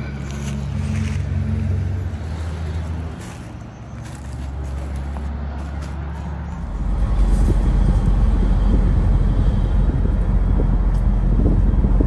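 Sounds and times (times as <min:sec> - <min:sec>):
outdoor noise: 0:00.0 - 0:12.0
vehicle engine humming: 0:00.0 - 0:12.0.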